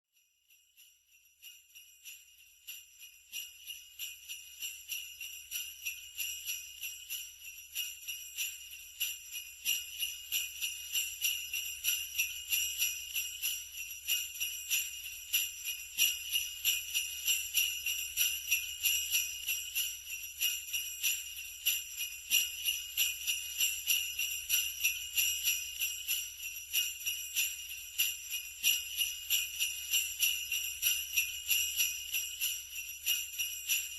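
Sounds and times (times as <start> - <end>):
sleigh bells jingling: 0.2 - 33.9.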